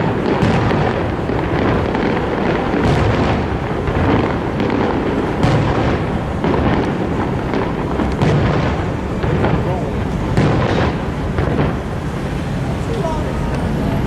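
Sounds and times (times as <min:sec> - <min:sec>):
fireworks booming: 0:00.0 - 0:14.0
sharp firework reports: 0:00.0 - 0:14.0.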